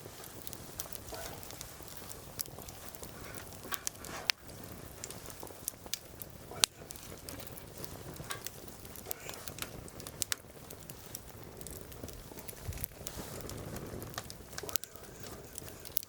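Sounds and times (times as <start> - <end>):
fire popping: 0.0 - 16.0
wood fire crackling: 0.0 - 16.0.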